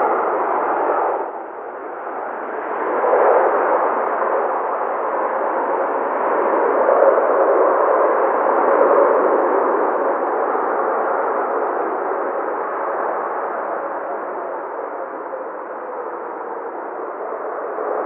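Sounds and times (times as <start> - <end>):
muffled jet engine noise: 0.0 - 18.0.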